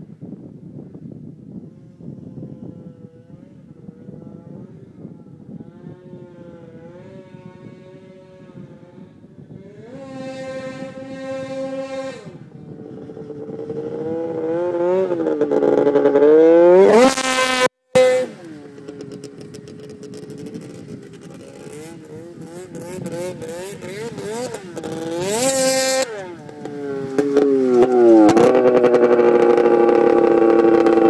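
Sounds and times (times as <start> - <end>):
snowmobile engine idling and revving: 1.7 - 31.0.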